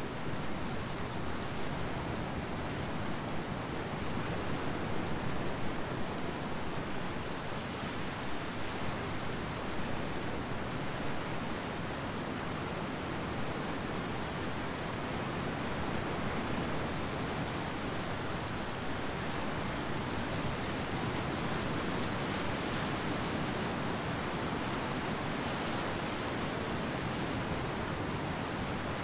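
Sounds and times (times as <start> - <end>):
ocean surf washing ashore: 0.1 - 29.0.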